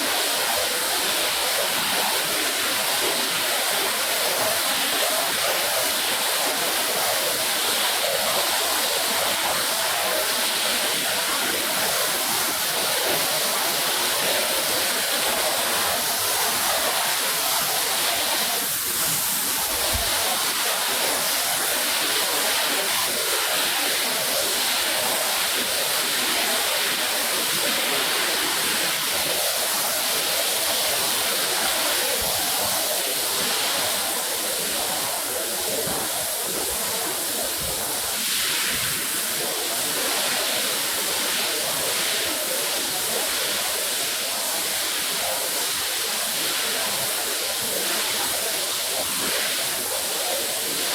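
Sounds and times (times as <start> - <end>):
water spraying from a hose: 0.0 - 50.9.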